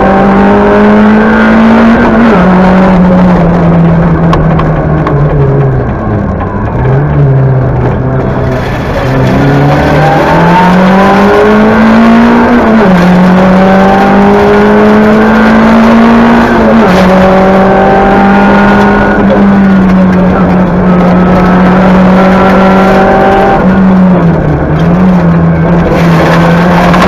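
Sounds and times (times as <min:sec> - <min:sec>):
rally car engine accelerating: 0:00.0 - 0:27.0.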